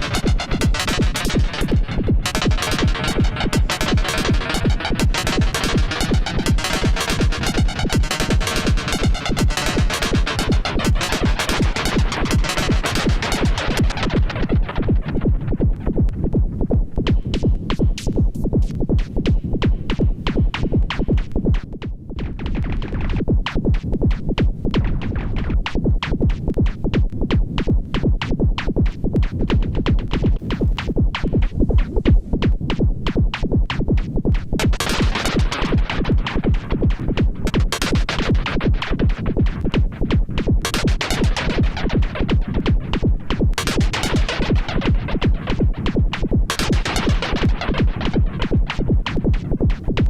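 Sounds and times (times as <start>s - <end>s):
electronic drum pattern: 0.0s - 50.0s.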